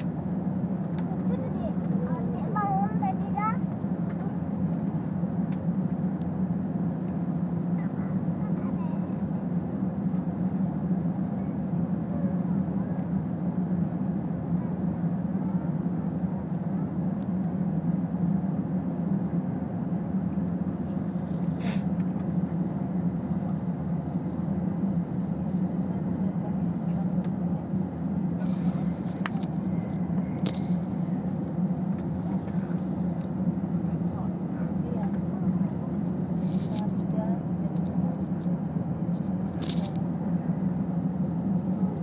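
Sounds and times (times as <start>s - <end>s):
airliner engines humming: 0.0s - 42.0s.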